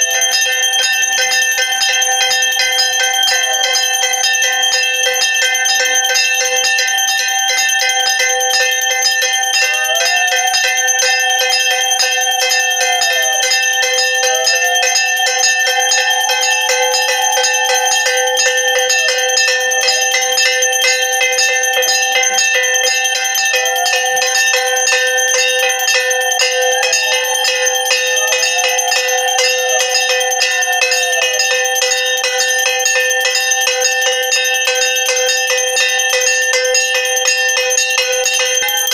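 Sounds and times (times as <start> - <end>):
hand bell ringing rapidly: 0.0 - 38.9.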